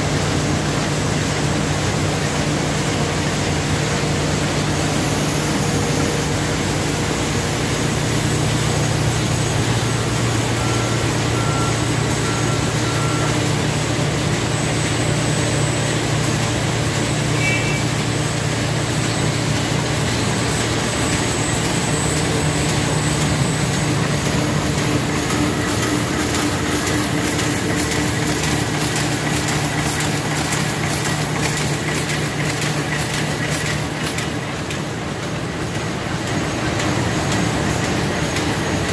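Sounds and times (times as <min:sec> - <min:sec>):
machine mechanical din: 0:06.2 - 0:38.9.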